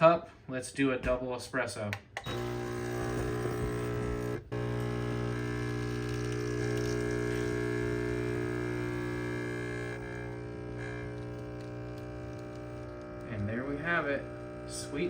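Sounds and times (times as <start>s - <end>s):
espresso machine pump buzzing: 2.2s - 15.0s.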